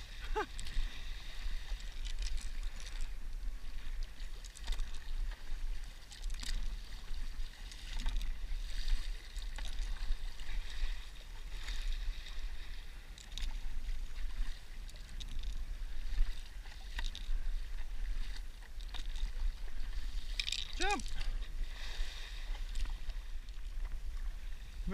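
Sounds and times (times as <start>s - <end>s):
water splashes and drips: 0.0s - 24.0s
paddle dipping into water: 0.0s - 24.8s.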